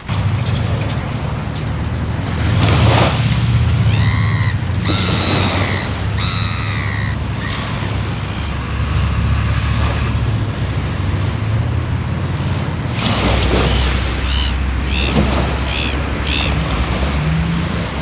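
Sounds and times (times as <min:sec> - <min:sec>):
gulls calling: 0:00.0 - 0:18.0.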